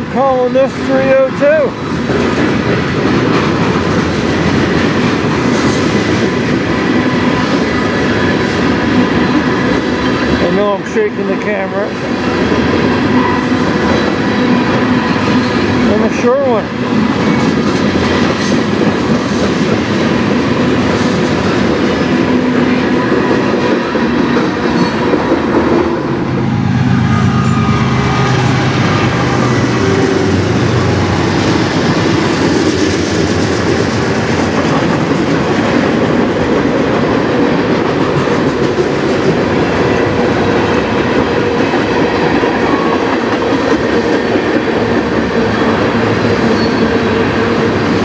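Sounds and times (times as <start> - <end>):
train wheels running on rails: 0.0 - 48.0.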